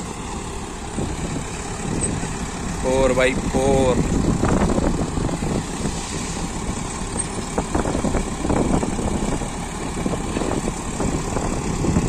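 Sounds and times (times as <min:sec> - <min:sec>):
tractor diesel engines rumbling: 0:00.0 - 0:12.0.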